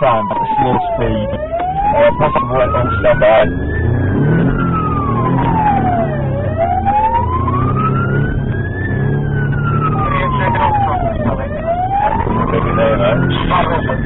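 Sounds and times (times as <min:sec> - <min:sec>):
engine and road noise: 0:00.0 - 0:14.0
police siren wailing: 0:00.0 - 0:14.0.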